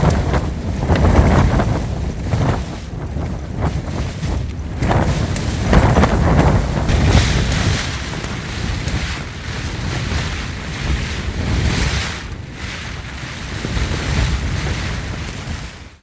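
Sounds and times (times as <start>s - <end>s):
wind gusting across microphone: 0.0s - 16.0s.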